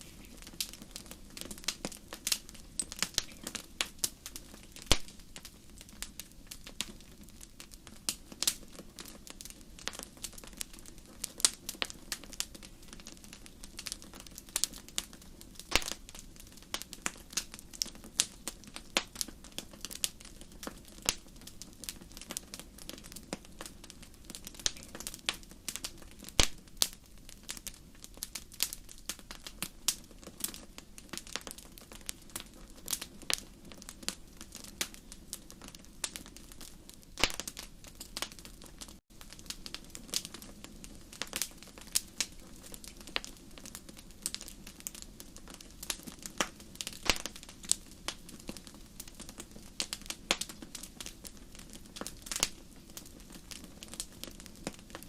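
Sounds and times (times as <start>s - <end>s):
soft low background noise: 0.0s - 55.0s
wood fire crackling and popping: 0.0s - 55.0s.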